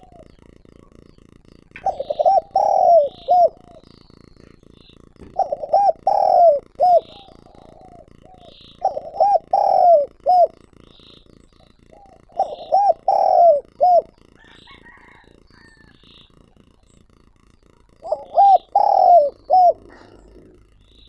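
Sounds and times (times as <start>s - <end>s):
dove cooing: 0.0s - 0.8s, 1.8s - 16.4s, 17.9s - 21.0s.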